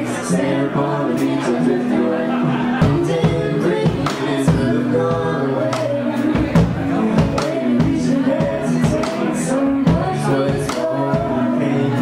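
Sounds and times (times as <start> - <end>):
electric guitar chords: 0.0 - 12.0
live band playing: 0.0 - 12.0.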